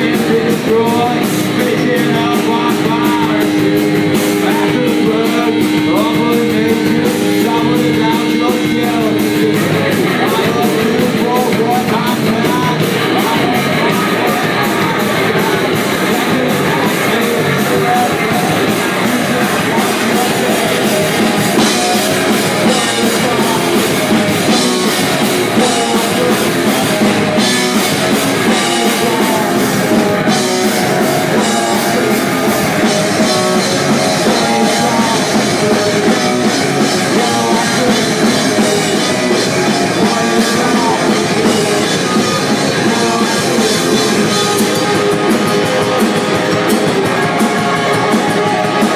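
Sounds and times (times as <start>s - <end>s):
drum kit: 0.0s - 48.9s
electric guitars: 0.0s - 48.9s.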